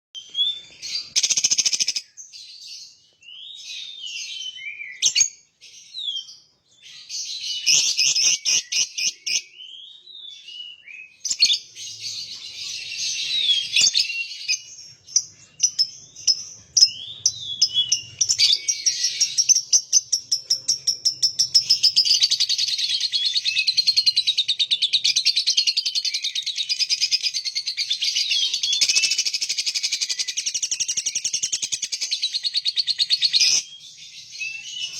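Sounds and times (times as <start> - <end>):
lovebird chirping and trilling: 0.2 - 34.9.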